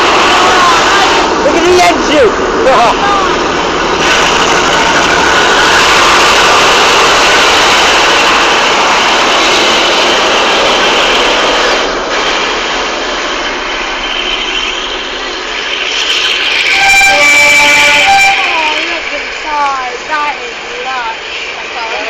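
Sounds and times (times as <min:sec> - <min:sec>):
locomotive engine running: 0:00.0 - 0:22.0.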